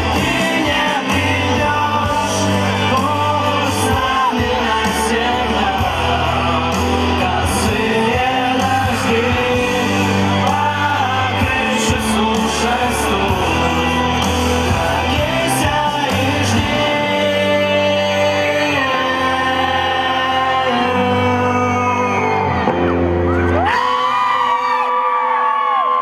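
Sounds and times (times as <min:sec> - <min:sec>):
bass: 0:00.0 - 0:24.8
person singing: 0:00.0 - 0:25.1
live pop band playing: 0:00.0 - 0:26.0.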